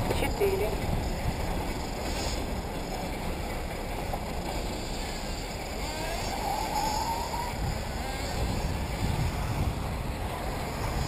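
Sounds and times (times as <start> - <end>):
distant model car motors: 0.0 - 11.0
outdoor wind: 0.0 - 11.0.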